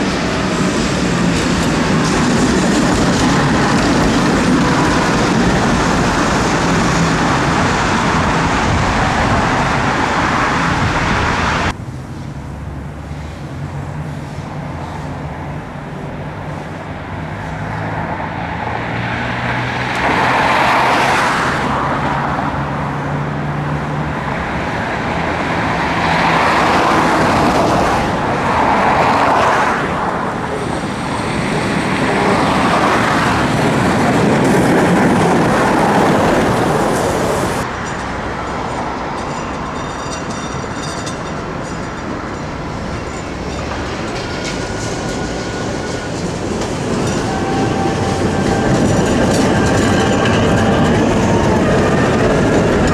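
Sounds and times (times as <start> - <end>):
vehicles passing: 0.0 - 52.9.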